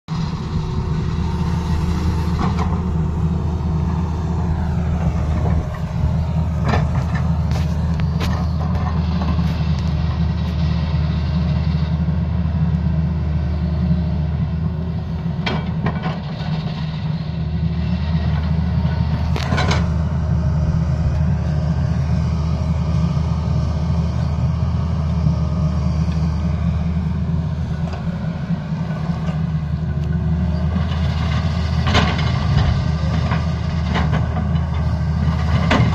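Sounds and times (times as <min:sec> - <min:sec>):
excavator diesel engine running: 0:00.1 - 0:35.9.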